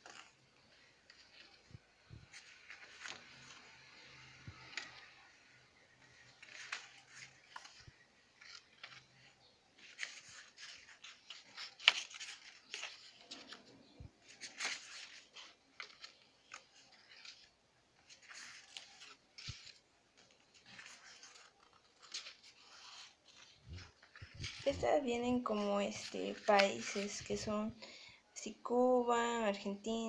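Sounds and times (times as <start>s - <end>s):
paper crackle: 0.0s - 27.5s
stiff paper rustling and sliding: 0.0s - 27.5s.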